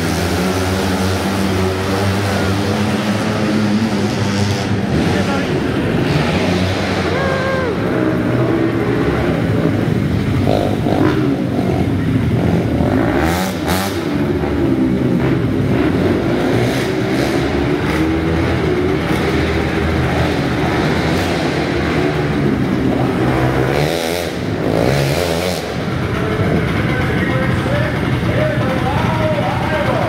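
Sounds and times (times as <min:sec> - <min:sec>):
race car engines running hard: 0:00.0 - 0:30.0.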